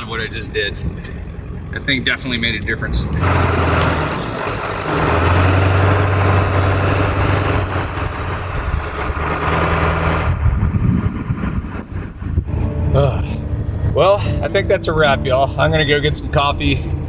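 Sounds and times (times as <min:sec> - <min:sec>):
diesel truck engine hum: 0:00.0 - 0:17.0
tyre and road noise: 0:00.0 - 0:17.0.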